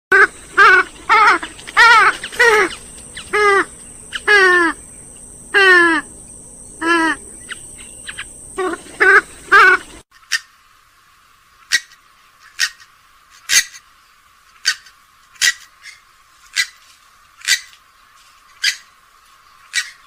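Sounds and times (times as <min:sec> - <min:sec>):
swamphen harsh calls: 0:00.1 - 0:10.7, 0:11.6 - 0:13.8, 0:14.6 - 0:17.8, 0:18.5 - 0:20.0.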